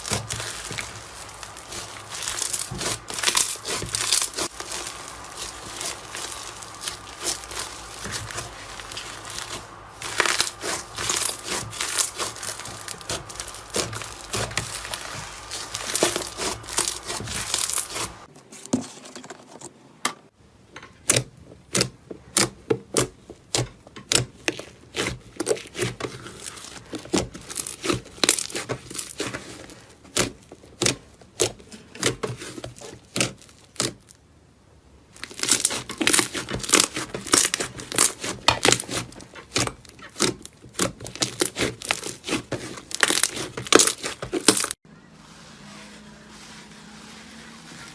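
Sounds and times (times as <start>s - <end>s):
crunchy material crackling: 0.0s - 18.6s, 21.7s - 34.2s, 35.1s - 47.9s.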